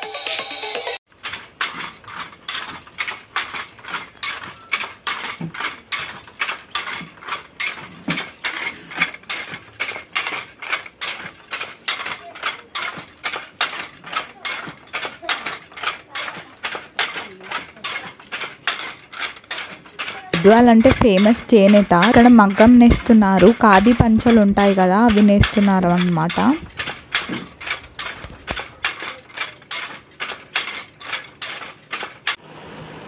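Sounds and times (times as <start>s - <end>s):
handloom shuttle clacking: 1.0s - 32.4s.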